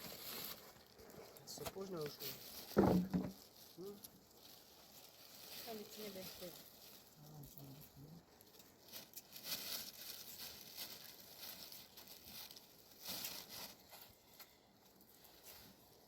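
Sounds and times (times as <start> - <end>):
faint rustling and handling: 0.0 - 16.0.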